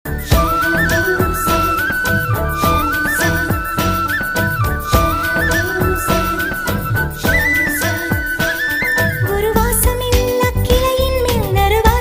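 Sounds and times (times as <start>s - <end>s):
flute melody: 0.1s - 11.3s
steady drum beat: 0.1s - 12.0s.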